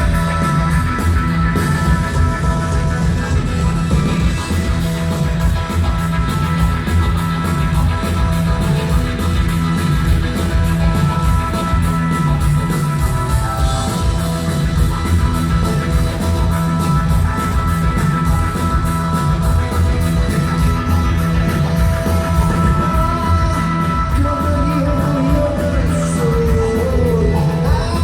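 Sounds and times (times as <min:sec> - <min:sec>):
drums: 0:00.0 - 0:28.0
electric guitar: 0:00.0 - 0:28.0.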